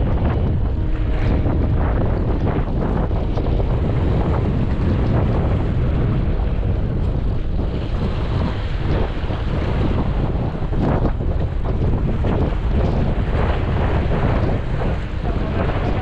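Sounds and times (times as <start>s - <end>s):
sea waves washing: 0.0s - 16.0s
wind buffeting microphone: 0.0s - 16.0s.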